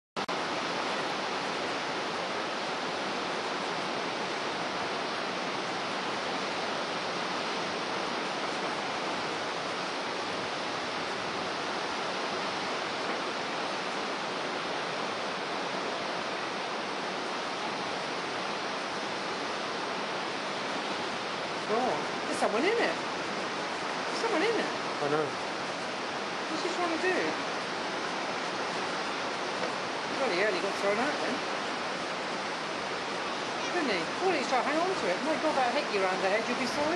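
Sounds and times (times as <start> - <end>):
surf breaking on rocks: 0.3 - 36.9.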